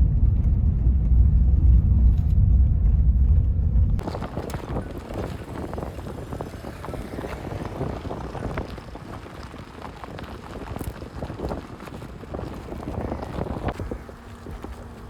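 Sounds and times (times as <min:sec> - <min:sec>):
tyre and road rumble: 0:02.4 - 0:15.0
wind buffeting microphone: 0:02.5 - 0:15.0.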